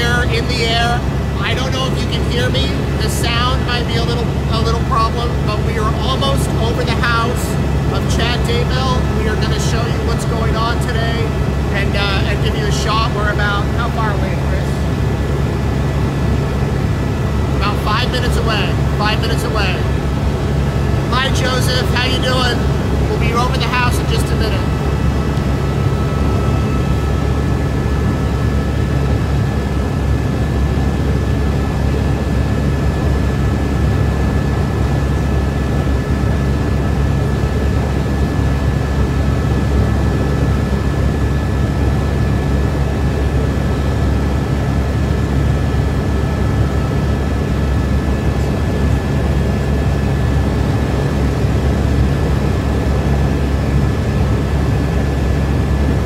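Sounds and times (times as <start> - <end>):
faint steady whines: 0.0 - 56.0
helicopter engine and rotor drone: 0.0 - 56.0.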